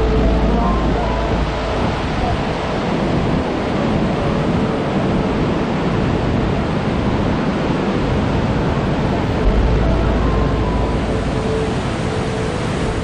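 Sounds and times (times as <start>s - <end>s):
rushing whitewater rapids: 0.0s - 13.0s.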